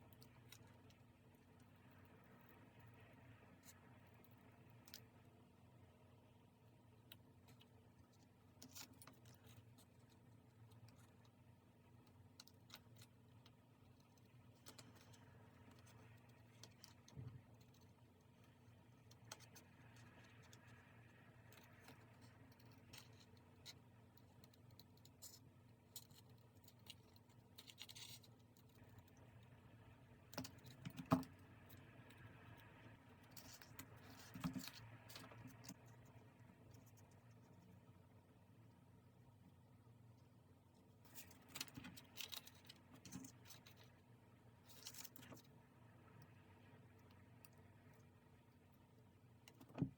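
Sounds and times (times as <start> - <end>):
soft clicks and scratches: 0.0 - 49.9.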